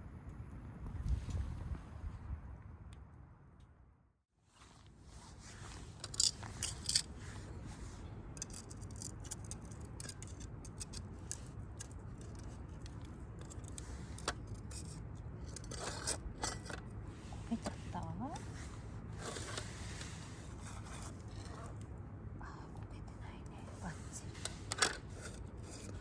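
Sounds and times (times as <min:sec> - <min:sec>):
low outdoor background: 0:00.0 - 0:26.0.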